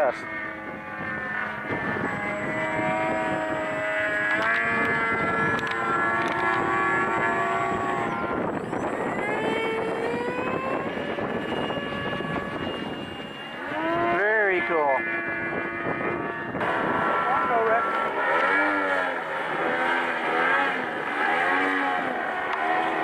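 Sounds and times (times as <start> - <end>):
model aircraft motor and propeller: 0.0 - 23.0.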